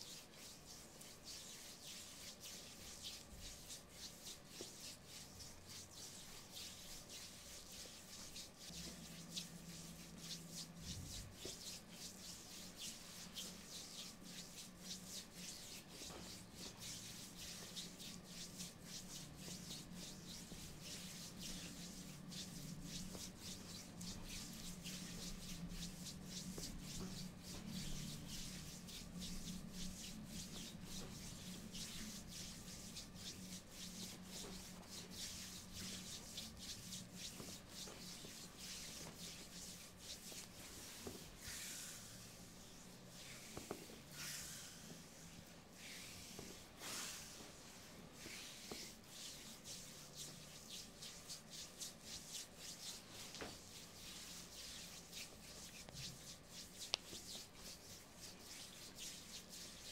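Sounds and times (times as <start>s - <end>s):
hands rubbing skin swishing: 0.0s - 59.9s.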